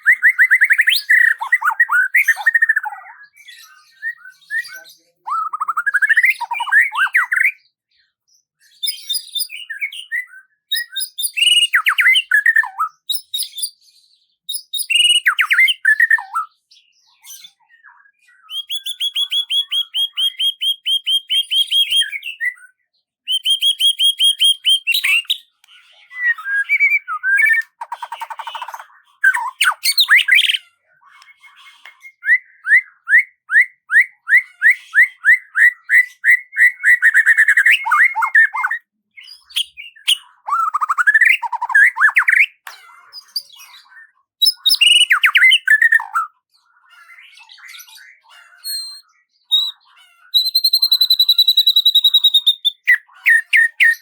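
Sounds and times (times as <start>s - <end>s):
songbird singing trills: 0.0s - 7.8s, 8.7s - 54.0s.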